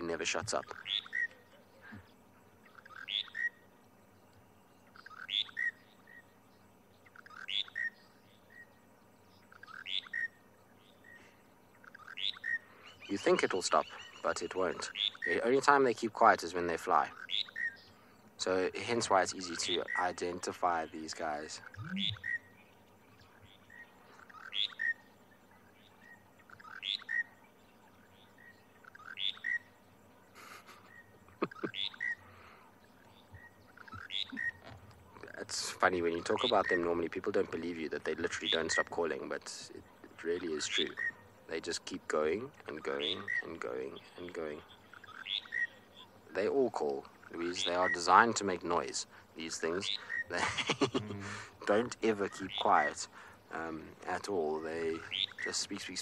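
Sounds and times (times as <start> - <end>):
lark singing: 0.0 - 56.0.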